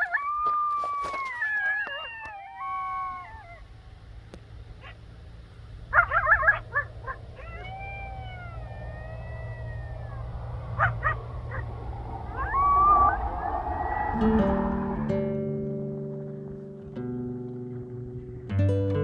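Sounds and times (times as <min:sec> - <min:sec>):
coyotes yipping and howling: 0:00.0 - 0:18.3.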